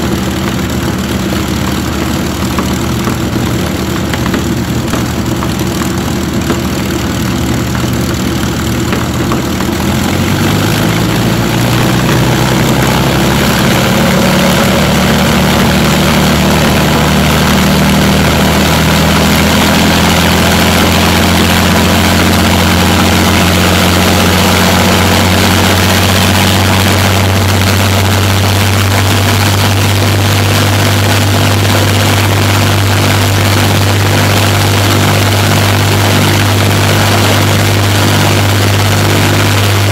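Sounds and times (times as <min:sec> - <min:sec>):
aero engine running: 0:00.0 - 0:39.9.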